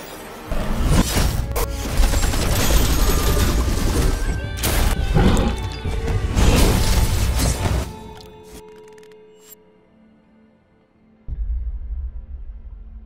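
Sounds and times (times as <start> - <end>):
cinematic trailer music: 0.0 - 13.0.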